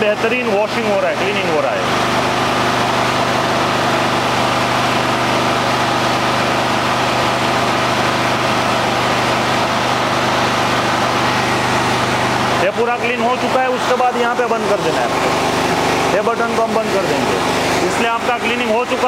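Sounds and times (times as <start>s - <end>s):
generator engine running: 0.0s - 19.0s
ice cream machine running: 0.0s - 19.0s.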